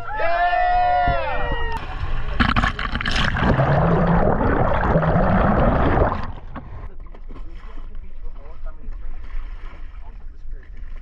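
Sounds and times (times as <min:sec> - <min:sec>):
seawater splashing and rushing: 0:01.8 - 0:11.0.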